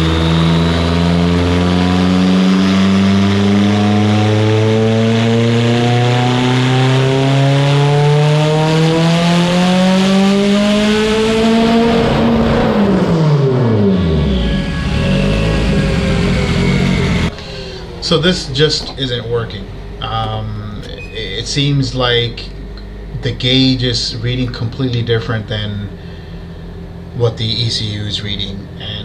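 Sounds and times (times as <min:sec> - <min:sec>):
car engine revving on dyno: 0:00.0 - 0:29.0.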